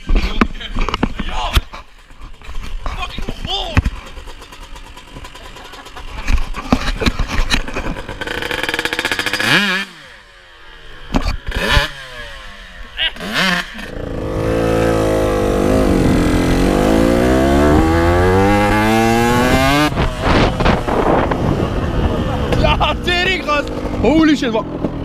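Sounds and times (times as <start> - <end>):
two-stroke dirt bike engine revving: 2.2 - 25.0.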